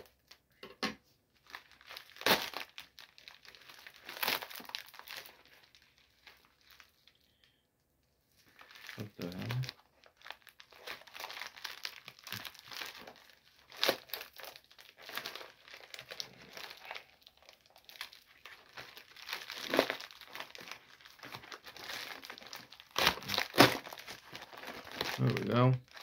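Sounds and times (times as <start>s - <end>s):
packaging crinkling: 1.4s - 7.5s, 8.4s - 26.0s.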